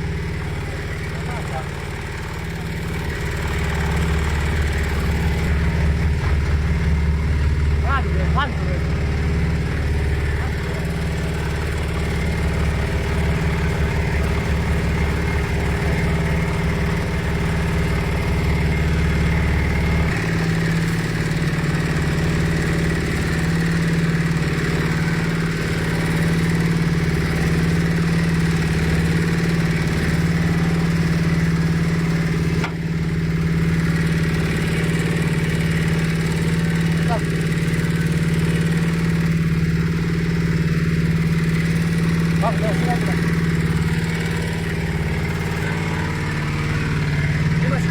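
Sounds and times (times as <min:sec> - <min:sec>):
feed mixer humming: 0:00.0 - 0:47.9.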